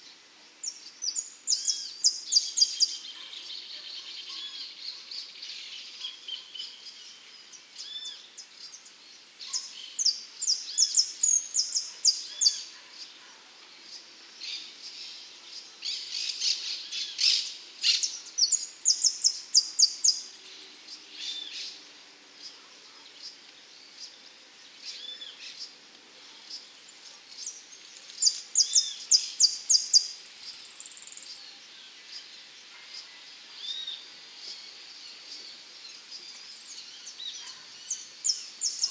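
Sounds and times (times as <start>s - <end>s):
soft bird chirps: 0.0s - 24.2s, 24.8s - 38.9s.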